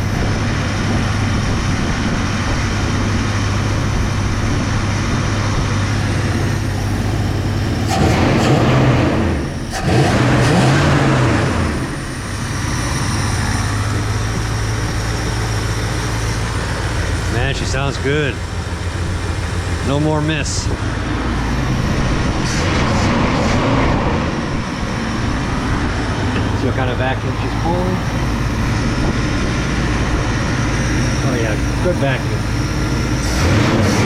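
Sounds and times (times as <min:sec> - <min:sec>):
car engine idling: 0:00.0 - 0:34.0
car engine revving: 0:00.0 - 0:34.0.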